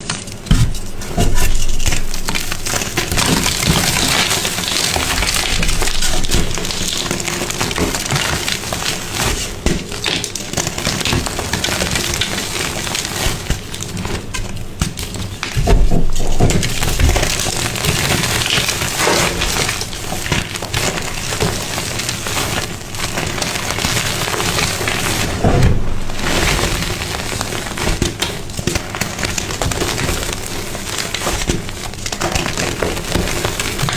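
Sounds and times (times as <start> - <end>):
brittle material crunching: 0.0 - 33.9.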